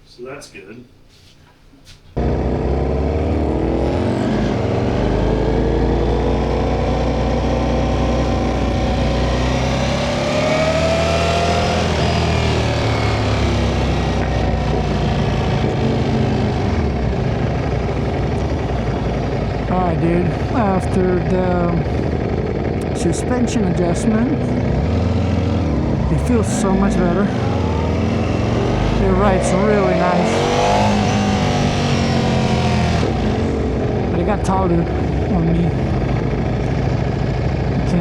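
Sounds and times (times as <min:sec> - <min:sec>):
motorcycle engine running: 0:02.2 - 0:38.0.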